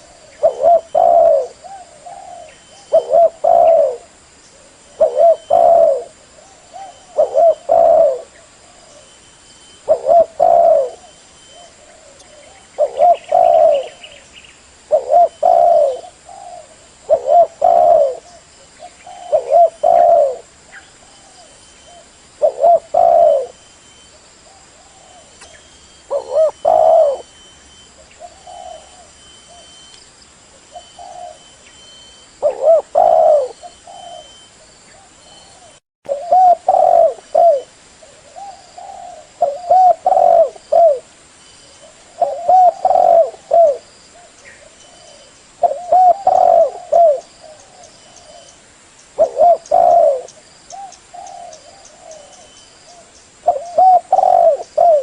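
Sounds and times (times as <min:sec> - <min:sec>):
dove cooing: 0:00.0 - 0:09.2, 0:09.8 - 0:14.2, 0:14.8 - 0:23.6, 0:24.4 - 0:29.9, 0:30.5 - 0:41.1, 0:41.7 - 0:48.6, 0:49.2 - 0:55.0.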